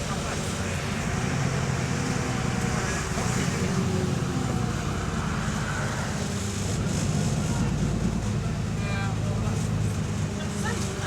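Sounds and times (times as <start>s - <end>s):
bus engine low hum: 0.0s - 11.0s.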